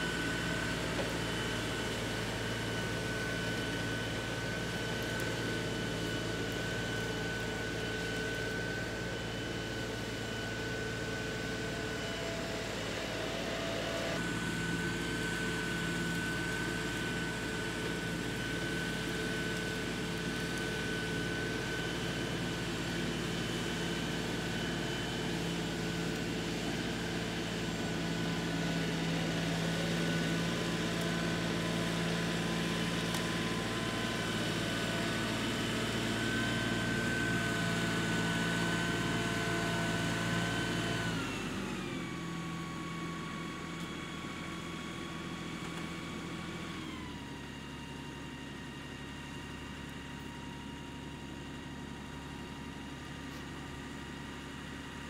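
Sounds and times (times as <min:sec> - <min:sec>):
high engine whine: 0:00.0 - 0:55.0
tractor diesel engine running: 0:00.0 - 0:55.0.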